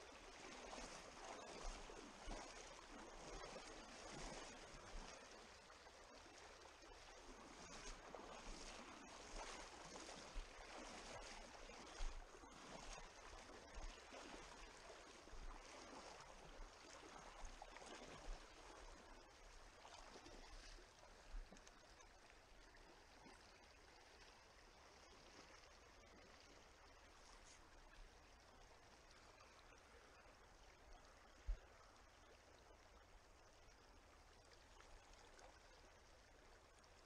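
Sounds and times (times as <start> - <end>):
stream running over stones: 0.0 - 37.0.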